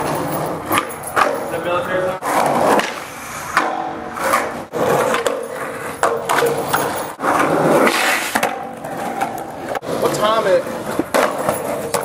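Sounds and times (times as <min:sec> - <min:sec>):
skateboard deck clacks: 0:00.0 - 0:01.5, 0:02.2 - 0:12.0
skateboard wheels rolling on pavement: 0:00.0 - 0:12.0.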